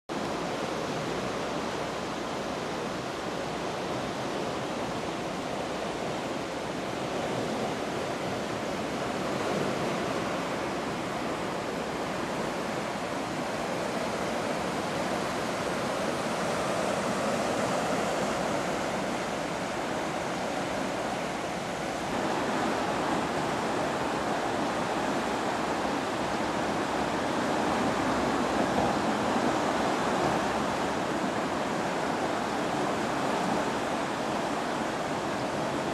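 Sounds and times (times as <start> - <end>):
river in flood rushing: 0.1 - 35.9.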